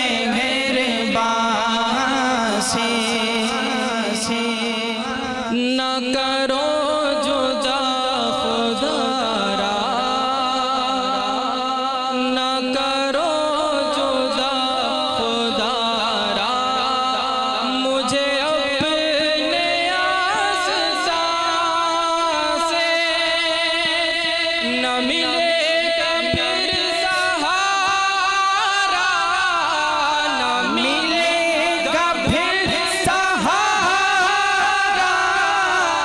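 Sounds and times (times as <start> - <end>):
man chanting: 0.0 - 36.0.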